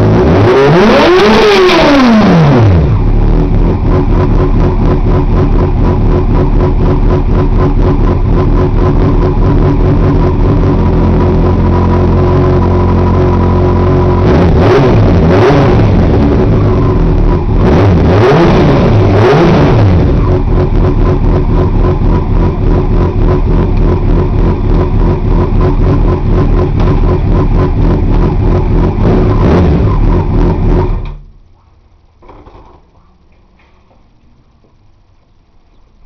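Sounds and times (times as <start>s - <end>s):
motorcycle engine revving and idling: 0.0s - 34.8s.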